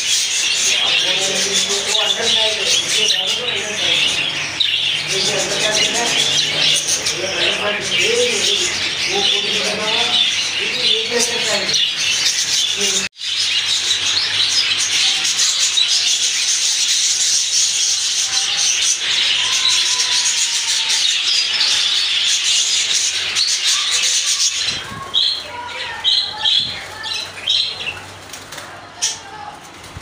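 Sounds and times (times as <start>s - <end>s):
budgerigars chattering: 0.0s - 28.0s.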